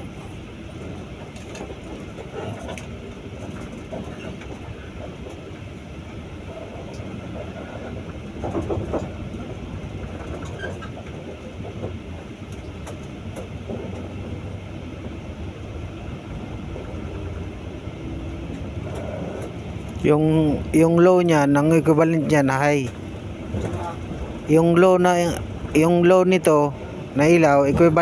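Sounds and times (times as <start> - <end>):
bus body rattling: 0.0 - 28.0
bus engine drone: 0.0 - 28.0
road noise: 0.0 - 28.0.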